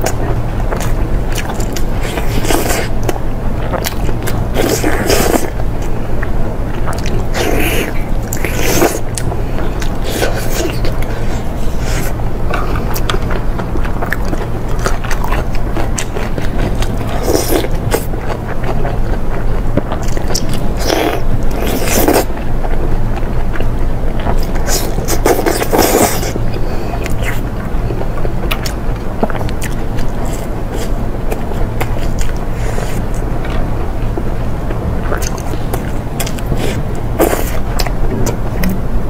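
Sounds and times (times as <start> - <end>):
person chewing meat: 0.0 - 38.8
low hum: 0.0 - 39.0.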